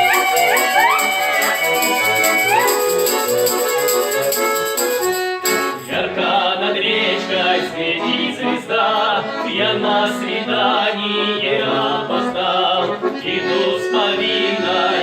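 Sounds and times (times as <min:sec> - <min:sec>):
group of voices singing: 0:00.0 - 0:03.6, 0:05.8 - 0:15.0
accordion: 0:00.0 - 0:15.0
violin: 0:00.0 - 0:15.0.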